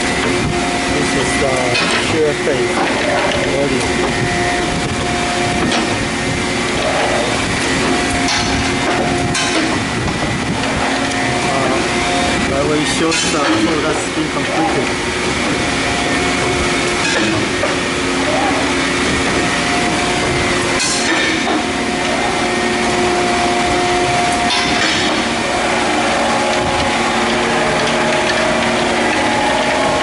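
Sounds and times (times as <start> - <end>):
machine mechanical drone: 0.0 - 30.0.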